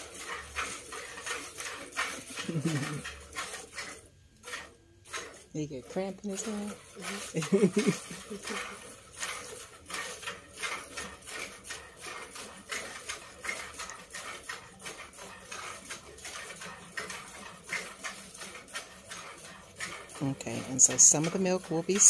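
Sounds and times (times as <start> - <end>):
milk squirting into a jug: 0.0 - 22.0.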